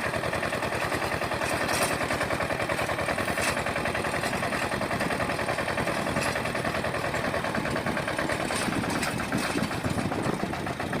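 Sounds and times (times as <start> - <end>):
small tractor engine chugging: 0.0 - 11.0.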